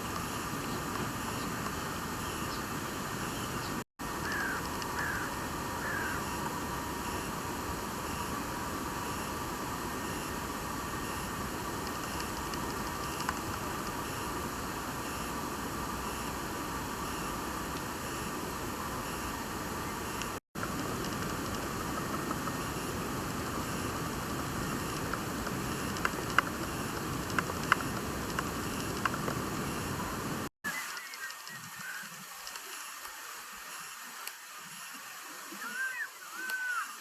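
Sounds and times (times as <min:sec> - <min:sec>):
outdoor ambient hiss: 0:00.0 - 0:37.0.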